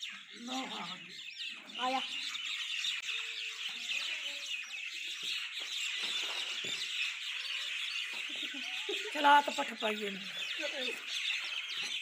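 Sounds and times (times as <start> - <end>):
many small birds chirping: 0.0 - 12.0.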